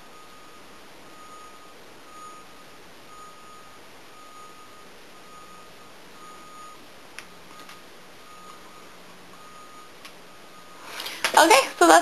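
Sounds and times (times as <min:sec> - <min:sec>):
faint electronic beep: 0:00.0 - 0:06.8, 0:07.4 - 0:11.6.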